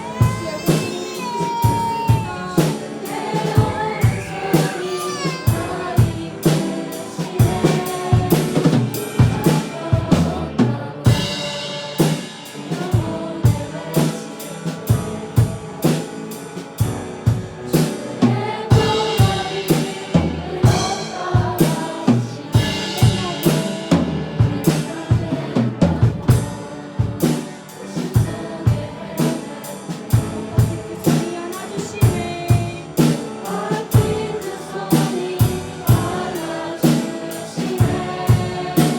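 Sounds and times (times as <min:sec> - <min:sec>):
drum kit with snare hits: 0:00.0 - 0:38.9
group of voices singing: 0:00.0 - 0:38.9
piano: 0:00.0 - 0:38.9.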